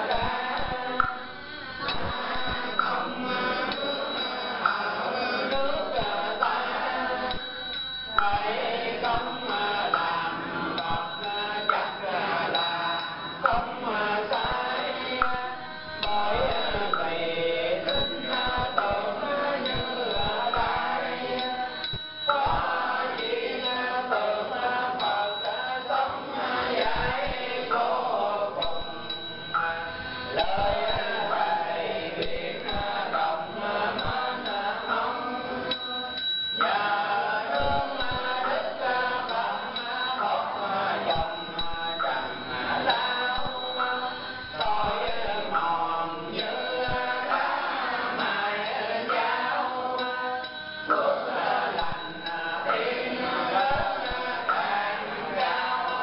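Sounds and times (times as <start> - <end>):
group chanting in unison: 0.0 - 56.0.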